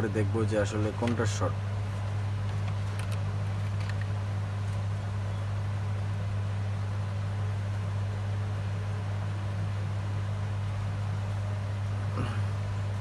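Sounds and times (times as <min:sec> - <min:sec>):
equipment humming and hissing: 0:00.0 - 0:13.0.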